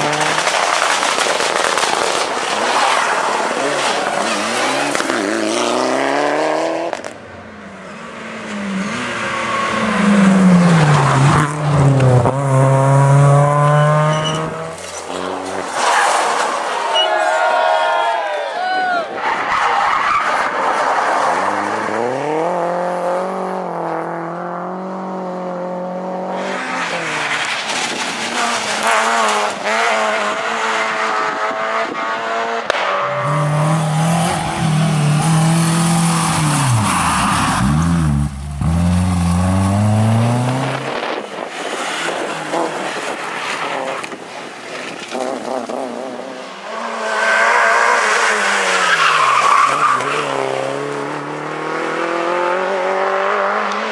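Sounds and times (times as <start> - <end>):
rally car engines revving: 0.0 - 17.2, 19.1 - 53.9.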